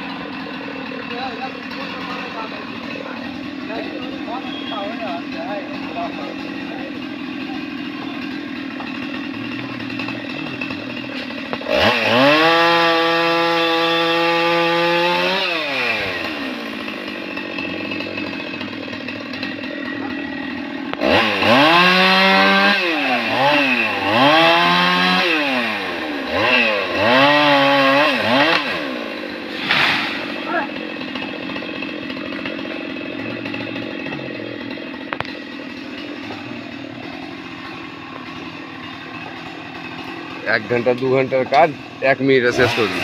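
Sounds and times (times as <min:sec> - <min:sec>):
chainsaw idling and revving: 0:00.0 - 0:43.0.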